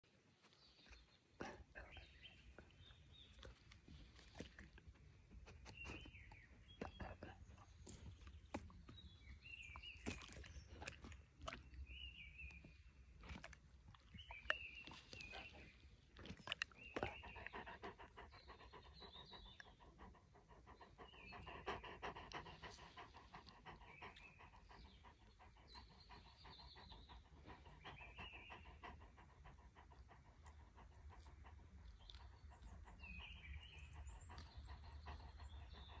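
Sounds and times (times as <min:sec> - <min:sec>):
small birds chirping: 0:00.1 - 0:36.0
dog panting: 0:01.4 - 0:11.6, 0:14.1 - 0:36.0.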